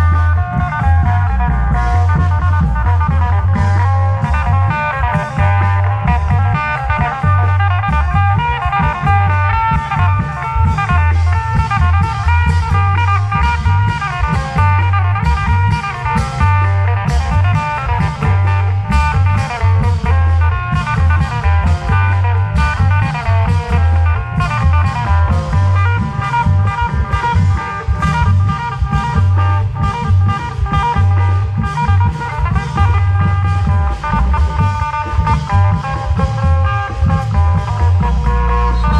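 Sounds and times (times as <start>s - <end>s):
drums beating steady rhythm: 0.0s - 38.9s
plucked string melody: 0.0s - 38.9s.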